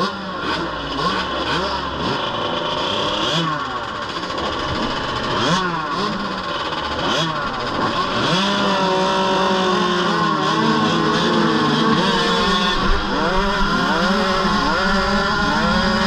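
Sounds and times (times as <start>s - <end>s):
motorbike engines revving: 0.0s - 16.0s.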